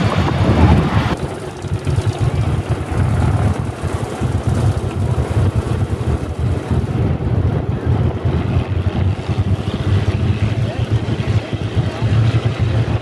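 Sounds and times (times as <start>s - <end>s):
aircraft rushing past: 0.0s - 13.0s
piston aircraft engines idling: 0.0s - 13.0s.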